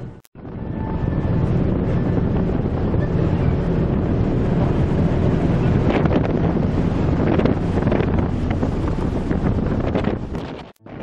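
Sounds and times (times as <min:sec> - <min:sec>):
ship engine rumble: 0:00.0 - 0:11.0
wind buffeting microphone: 0:00.0 - 0:11.0.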